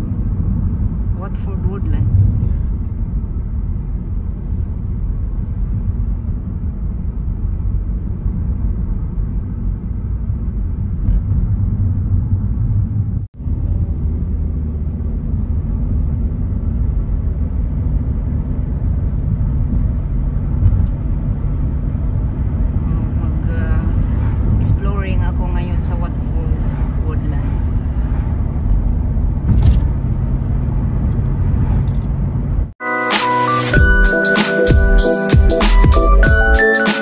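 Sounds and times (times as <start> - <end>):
car interior road rumble: 0.0 - 32.8.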